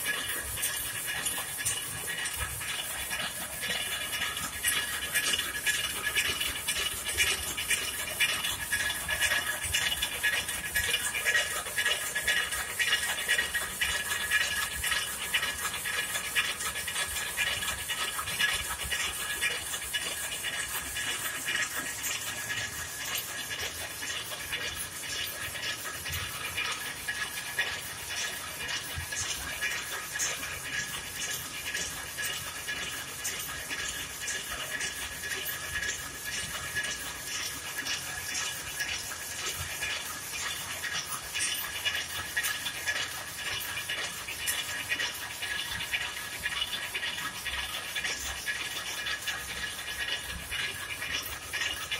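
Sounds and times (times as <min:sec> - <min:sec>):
loom mechanical clatter: 0:00.0 - 0:51.9.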